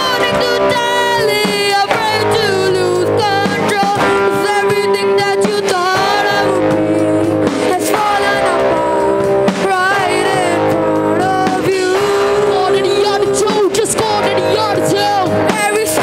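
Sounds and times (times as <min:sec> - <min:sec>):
electric guitars: 0:00.0 - 0:16.0
lead vocal singing: 0:00.0 - 0:16.0
percussion beat: 0:00.0 - 0:16.0.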